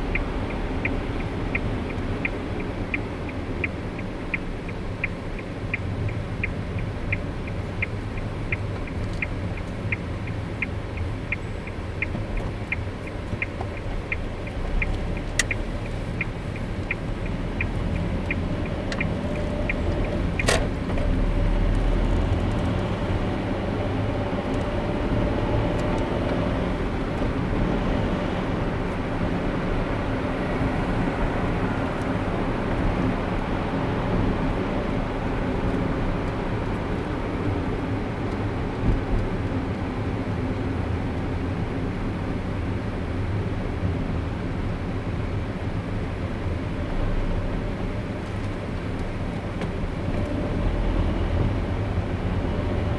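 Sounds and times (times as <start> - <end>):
turn signal ticking: 0.0 - 52.9
tyres and engine rumble: 0.0 - 52.9.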